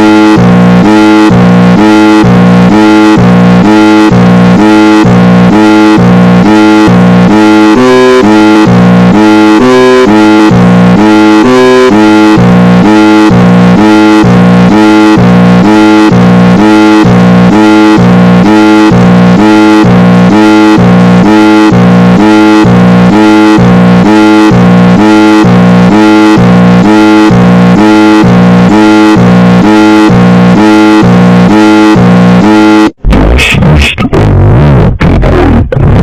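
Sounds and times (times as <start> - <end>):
two-pitch synthesized alarm tone: 0.0 - 33.5.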